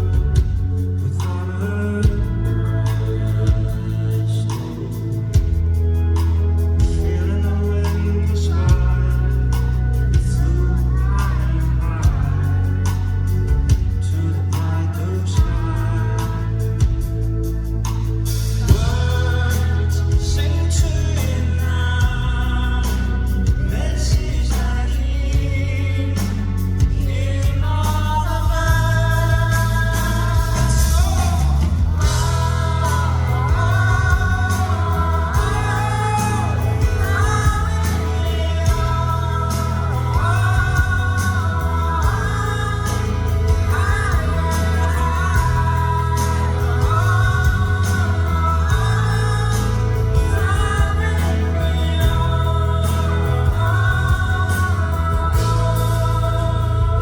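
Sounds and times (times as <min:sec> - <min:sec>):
live rock band playing: 0:00.0 - 0:57.0
singer holding long notes: 0:00.0 - 0:57.0.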